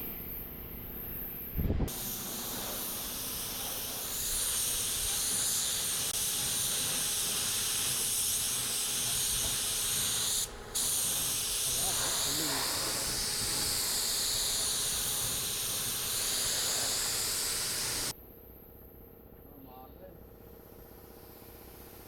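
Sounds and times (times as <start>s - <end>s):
steady high hiss: 0.0s - 18.1s.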